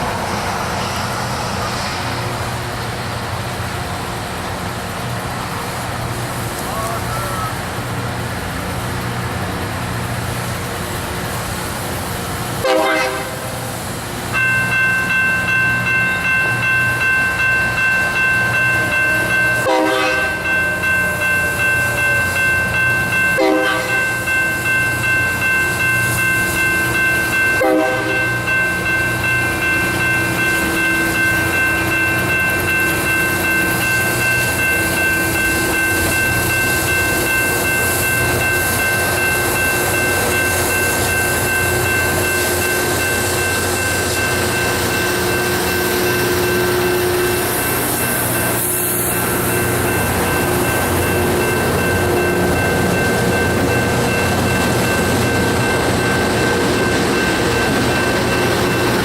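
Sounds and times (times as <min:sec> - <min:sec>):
rail grinder train rumbling: 0:00.0 - 0:59.0.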